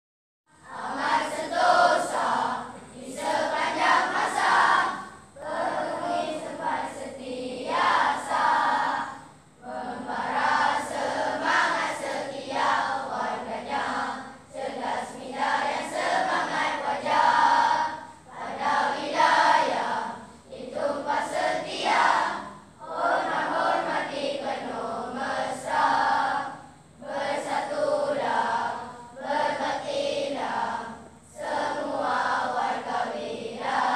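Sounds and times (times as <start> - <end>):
children singing in unison: 0.6 - 33.9.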